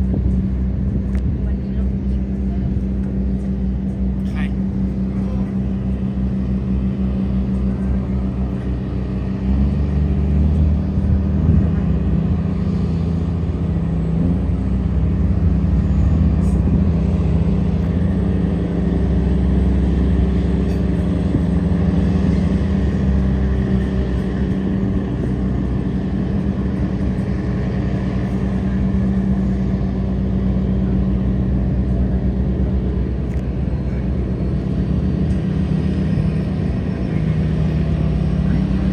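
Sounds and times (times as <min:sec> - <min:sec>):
boat diesel engine droning: 0:00.0 - 0:38.9.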